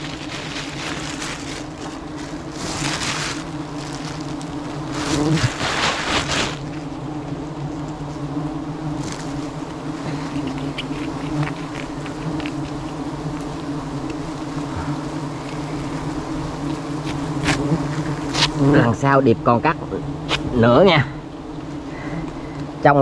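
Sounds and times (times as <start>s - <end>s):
rustling noise: 0.0s - 18.8s
bees buzzing: 0.0s - 23.0s.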